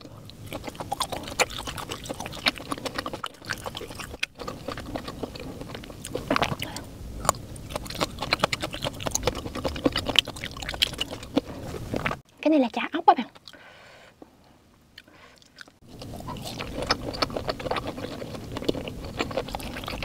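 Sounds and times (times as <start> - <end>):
woman chewing wet mouth clicks: 0.0 - 12.2, 15.0 - 20.0.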